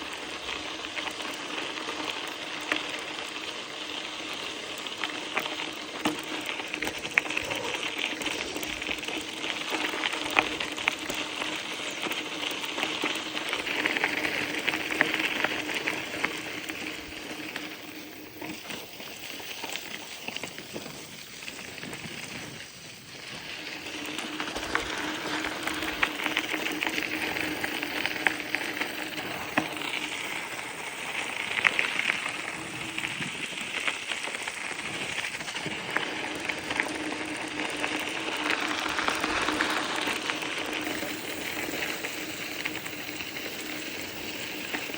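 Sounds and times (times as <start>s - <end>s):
bicycle tyres on rough trail: 0.0s - 44.9s.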